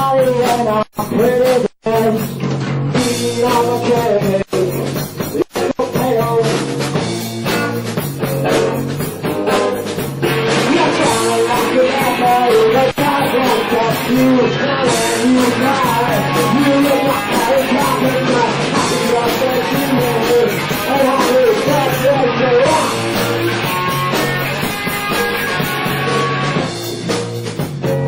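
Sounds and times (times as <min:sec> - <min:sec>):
punk rock band playing: 0:00.0 - 0:28.0.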